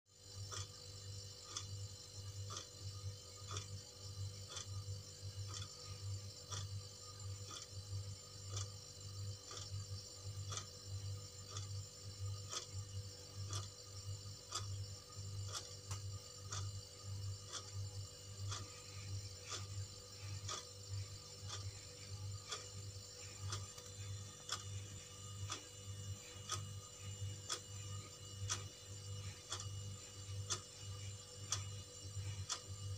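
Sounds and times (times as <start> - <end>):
wall clock ticking: 0.2 - 32.9.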